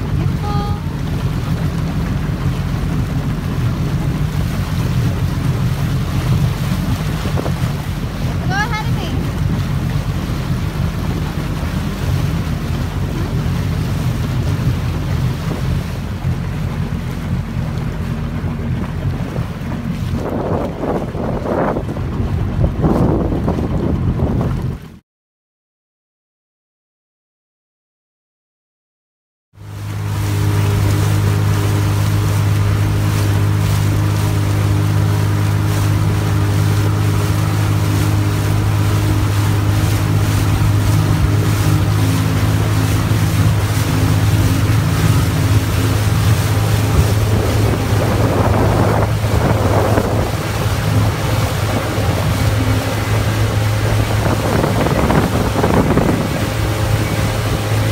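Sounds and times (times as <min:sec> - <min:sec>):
jet ski engines droning: 0:00.0 - 0:25.0, 0:29.6 - 0:57.9
wind on microphone: 0:00.0 - 0:25.0, 0:30.0 - 0:57.9.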